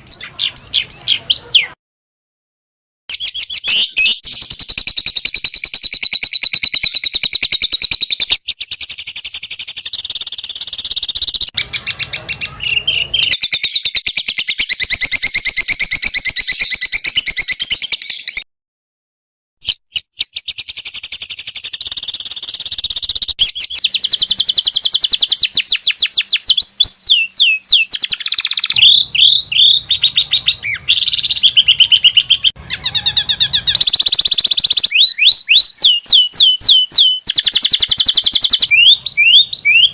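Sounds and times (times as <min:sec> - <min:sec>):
songbird trills and chirps: 0:03.1 - 0:18.4, 0:19.6 - 0:39.9.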